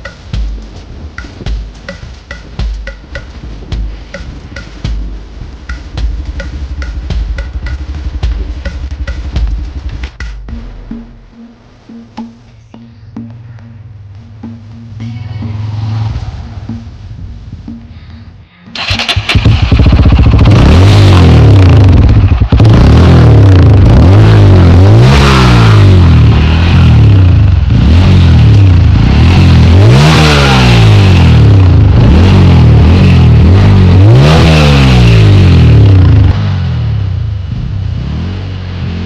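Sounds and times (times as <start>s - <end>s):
motorcycle engine revving: 3.6s - 12.0s, 13.3s - 17.9s, 18.7s - 39.0s.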